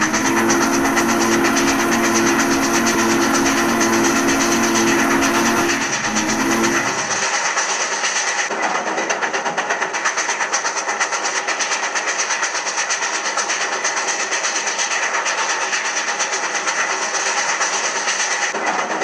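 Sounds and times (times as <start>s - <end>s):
steam hiss and rumble: 0.0s - 19.0s
steam train rhythmic beat: 0.0s - 19.0s.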